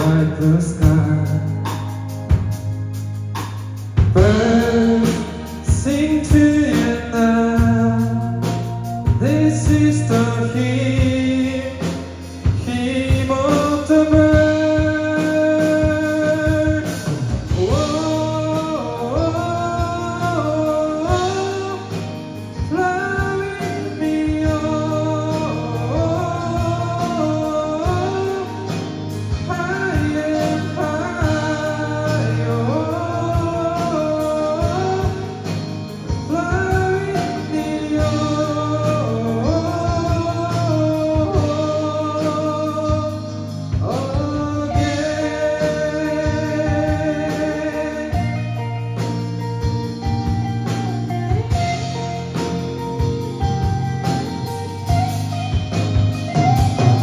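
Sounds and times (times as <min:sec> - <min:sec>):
bending guitar lead melody: 0:00.0 - 0:57.0
live rock band playing: 0:00.0 - 0:57.0.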